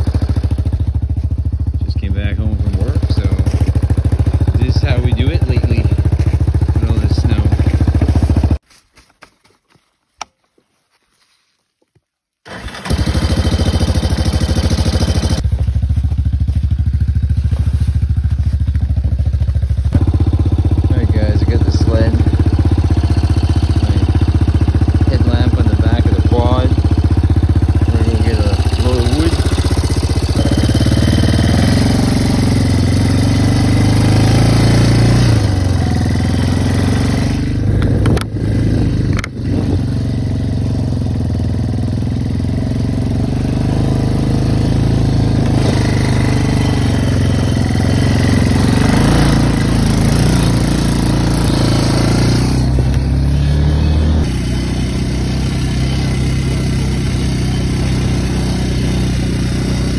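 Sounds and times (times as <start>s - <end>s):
quad bike engine revving: 0.0s - 8.6s, 12.5s - 59.9s.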